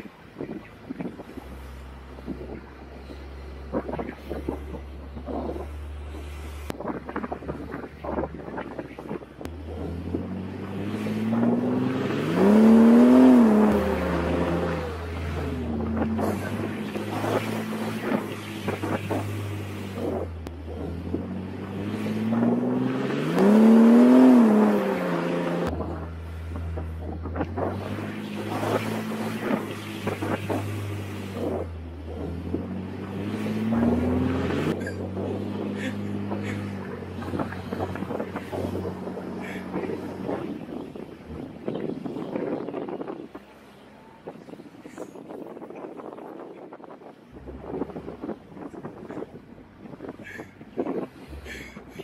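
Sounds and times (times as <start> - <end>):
off-road vehicle engine revving: 0.0 - 45.4, 47.3 - 52.0
wind buffeting microphone: 0.0 - 52.0.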